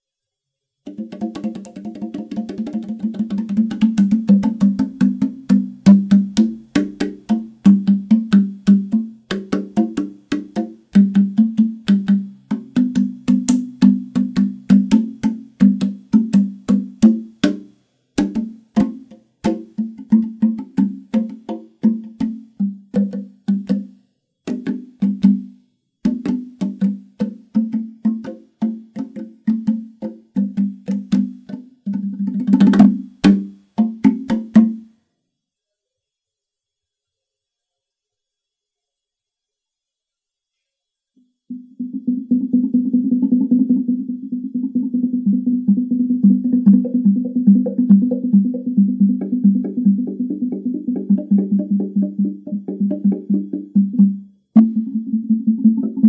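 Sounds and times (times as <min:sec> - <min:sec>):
wooden tongue drum notes: 0:00.8 - 0:34.9, 0:41.5 - 0:56.0.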